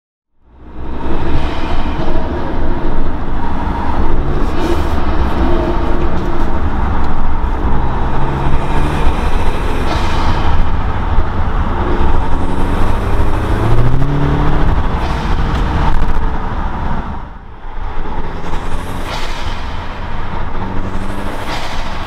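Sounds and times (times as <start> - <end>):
car engine rumbling: 0.4 - 22.0.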